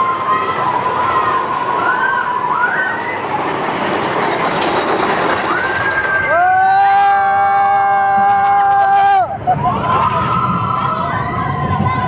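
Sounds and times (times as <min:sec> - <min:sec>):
roller coaster rumble on track: 0:00.0 - 0:12.0.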